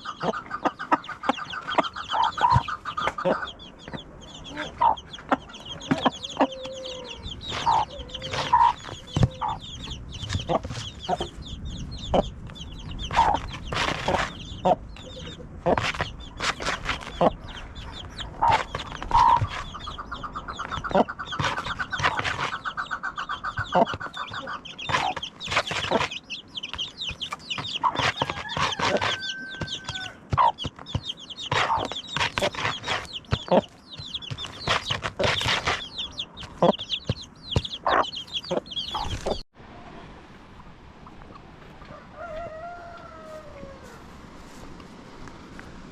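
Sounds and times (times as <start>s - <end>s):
chick peeping: 0.0s - 40.0s
chickens clucking: 0.0s - 40.1s, 41.0s - 44.1s.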